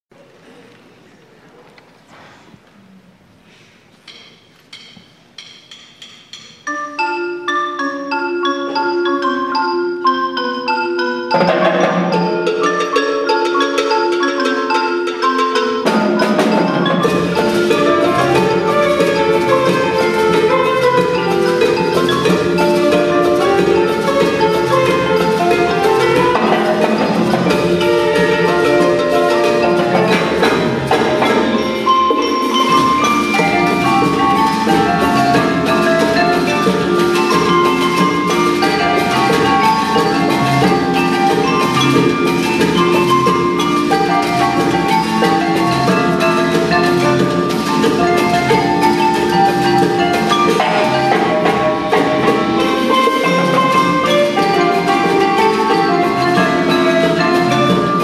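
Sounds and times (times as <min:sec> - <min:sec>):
marimbas playing repeating patterns: 0:04.0 - 0:58.0.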